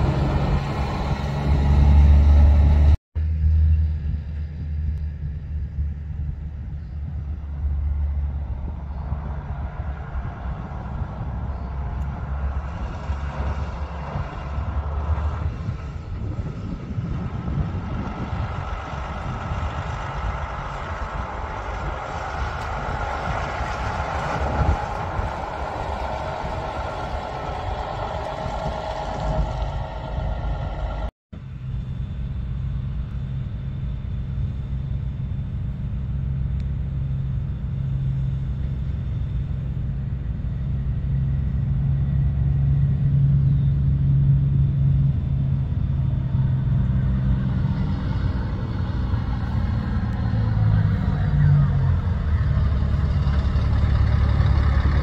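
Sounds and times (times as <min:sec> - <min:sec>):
diesel truck driving past: 0:00.0 - 0:55.0
truck diesel engine droning: 0:00.0 - 0:55.0.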